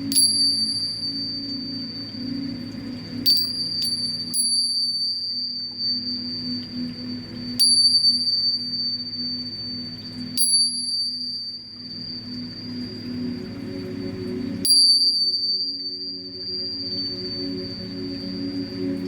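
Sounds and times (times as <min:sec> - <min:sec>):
singing bowl ringing: 0:00.0 - 0:13.5, 0:14.5 - 0:19.0
low wavering hum: 0:00.0 - 0:19.0.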